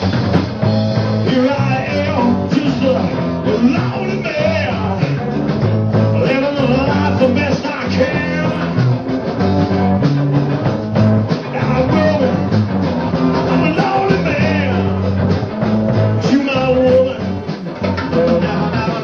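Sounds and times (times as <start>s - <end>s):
bass guitar: 0.0s - 19.0s
drums: 0.0s - 19.0s
electric guitars: 0.0s - 19.0s.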